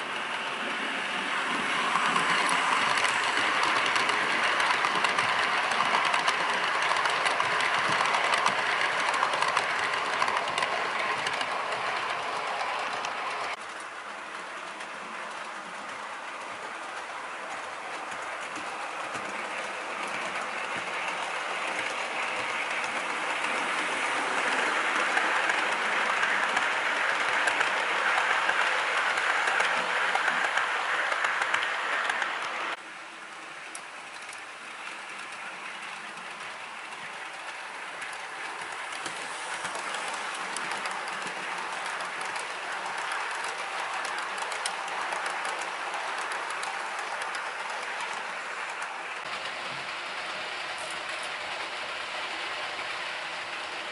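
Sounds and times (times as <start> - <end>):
model train wheels rumbling on rail: 0.0 - 53.9.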